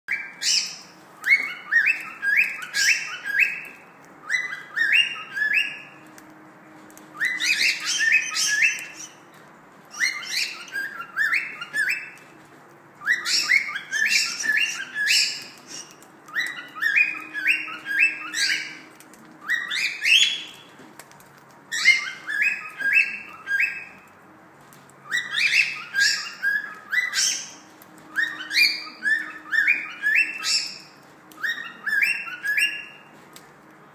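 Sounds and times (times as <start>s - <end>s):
cockatiel chirping: 0.1s - 6.0s, 7.2s - 9.2s, 9.9s - 12.2s, 13.0s - 20.7s, 21.7s - 24.0s, 25.0s - 33.1s.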